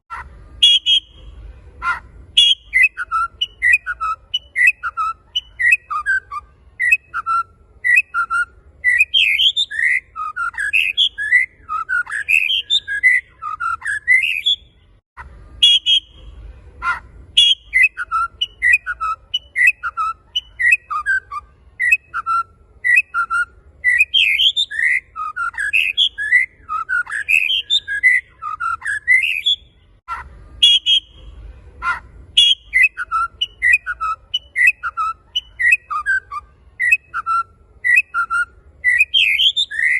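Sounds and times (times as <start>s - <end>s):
bird singing whistled notes: 0.1s - 14.8s, 15.6s - 29.8s, 30.6s - 39.9s.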